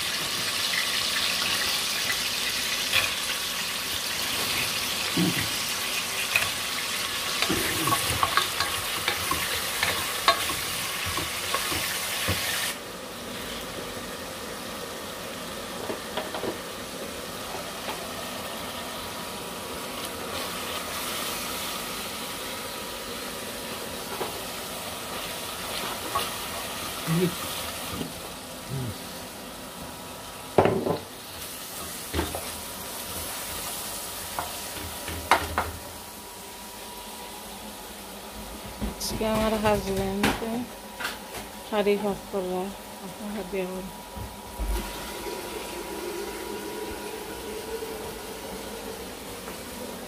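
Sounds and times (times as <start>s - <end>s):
onions sizzling in oil: 0.0s - 50.0s.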